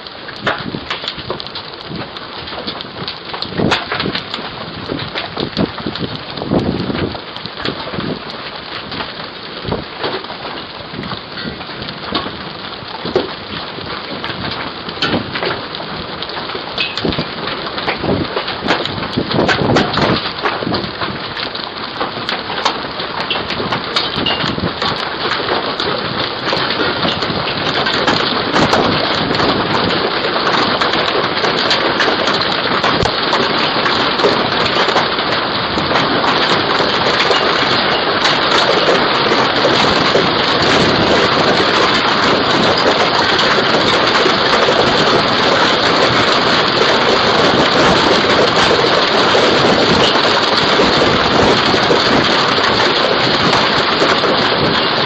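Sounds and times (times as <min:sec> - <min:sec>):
hailstones clattering: 0:00.0 - 0:55.0
rain-like hiss: 0:00.0 - 0:55.0.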